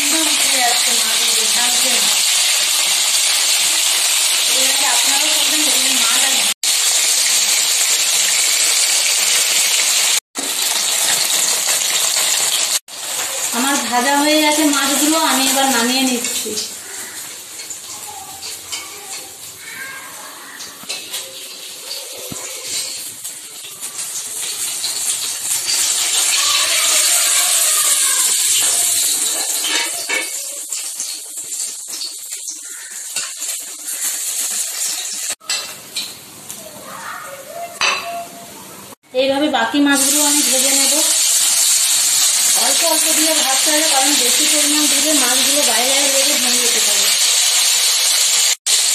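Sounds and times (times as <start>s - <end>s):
fish sizzling in oil: 0.0s - 37.1s, 39.7s - 48.9s.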